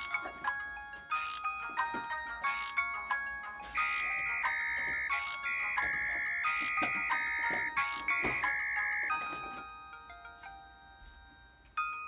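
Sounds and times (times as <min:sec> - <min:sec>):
synthesized bell-like ringtone: 0:00.0 - 0:12.0.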